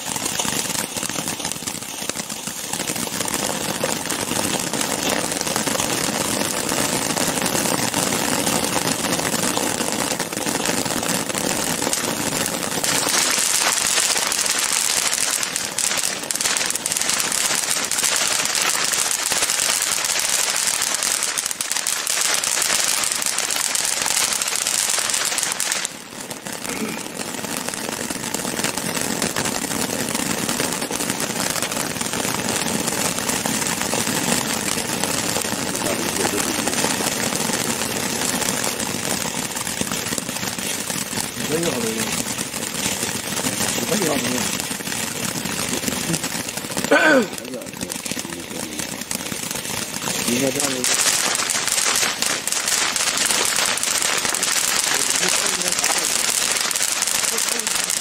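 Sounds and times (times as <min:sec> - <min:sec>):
firework crackling: 0:00.0 - 0:58.0
firework fountains hissing: 0:00.0 - 0:58.0.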